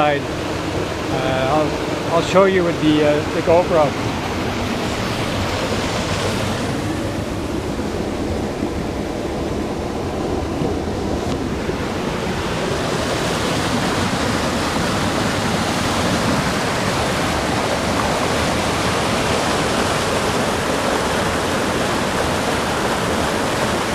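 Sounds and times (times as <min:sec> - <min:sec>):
river water rushing through rapids: 0:00.0 - 0:23.9.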